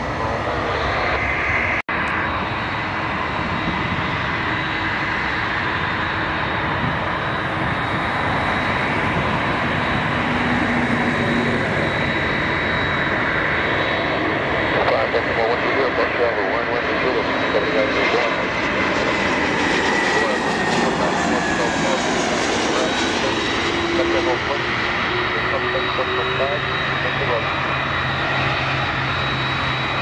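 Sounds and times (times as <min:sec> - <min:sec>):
jet engines rushing and whining: 0:00.0 - 0:30.0.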